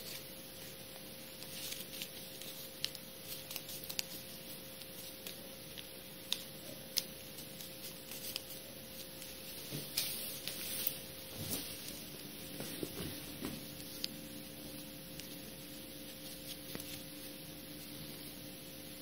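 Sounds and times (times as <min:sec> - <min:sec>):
paper rustling and crinkling: 0:00.0 - 0:17.4
faint steady hum: 0:00.0 - 0:19.0.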